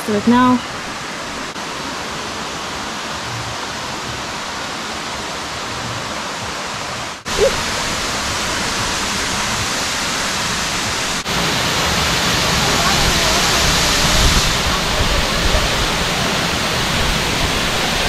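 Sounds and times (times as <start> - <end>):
waterfall rushing: 0.1 - 18.0.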